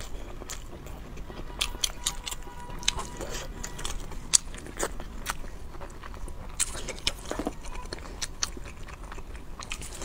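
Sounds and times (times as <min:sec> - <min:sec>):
person chewing and biting: 0:00.0 - 0:10.0.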